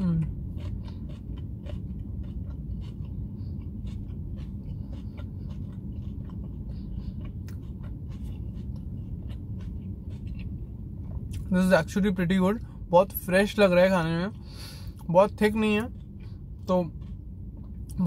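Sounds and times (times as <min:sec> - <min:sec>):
person chewing crunchy food: 0:00.0 - 0:12.8, 0:13.6 - 0:18.0
steady low hum: 0:00.0 - 0:18.0.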